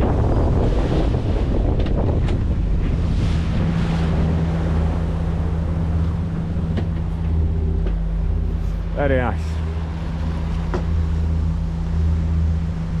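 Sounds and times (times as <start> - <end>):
rush of sea water: 0.0 - 13.0
wind buffeting microphone: 0.0 - 13.0
diesel engine droning: 1.6 - 13.0.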